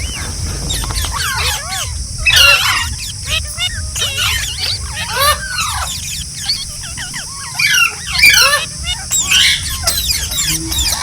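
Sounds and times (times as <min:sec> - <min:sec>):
parrots chattering and squawking: 0:00.0 - 0:11.0.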